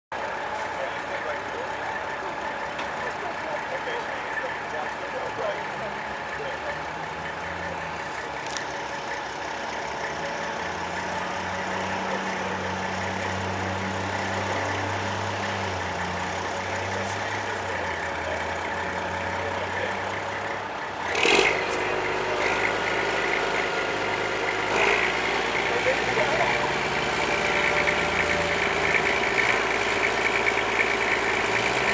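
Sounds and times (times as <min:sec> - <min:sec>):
heavy engine running: 0:00.1 - 0:31.9.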